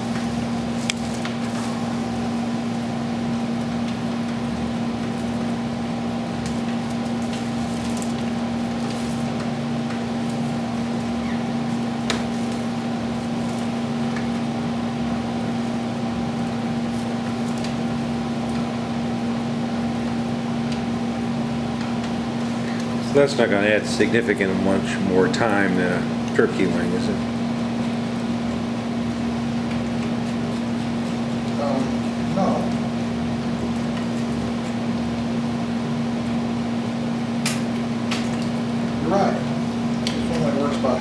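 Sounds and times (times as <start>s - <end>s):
mechanical fan hum: 0.0s - 41.0s.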